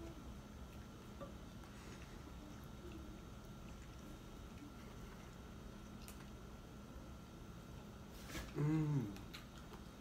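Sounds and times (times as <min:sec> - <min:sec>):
quiet chewing: 0:00.0 - 0:06.7, 0:07.7 - 0:10.0
faint room hum: 0:00.0 - 0:10.0.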